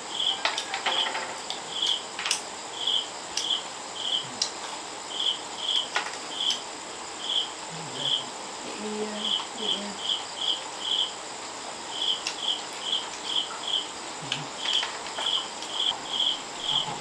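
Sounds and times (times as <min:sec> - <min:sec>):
insect chirping in pulses: 0:00.0 - 0:17.0.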